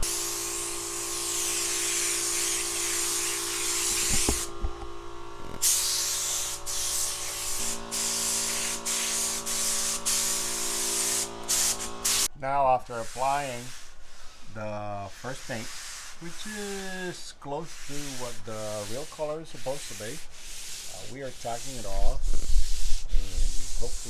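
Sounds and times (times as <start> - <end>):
spray gun hissing: 0.0 - 4.7, 5.6 - 12.3, 13.0 - 14.5, 15.2 - 24.0.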